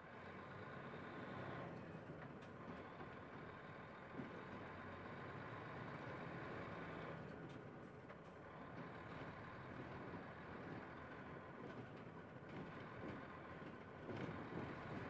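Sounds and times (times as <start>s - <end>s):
bus diesel engine: 0.0s - 15.0s
road noise: 0.0s - 15.0s.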